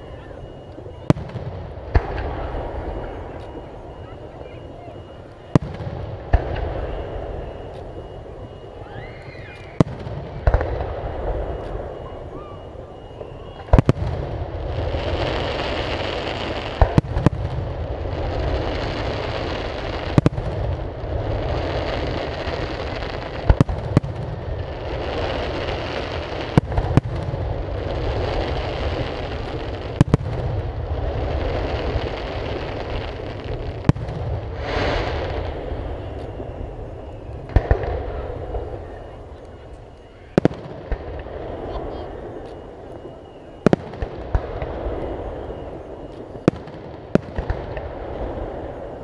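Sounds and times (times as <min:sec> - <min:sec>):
fireworks bursting with bangs: 0:00.0 - 0:49.0.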